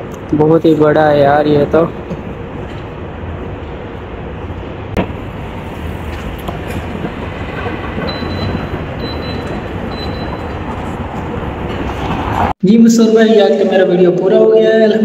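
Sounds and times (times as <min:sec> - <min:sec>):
rushing city background noise: 0:00.0 - 0:12.7.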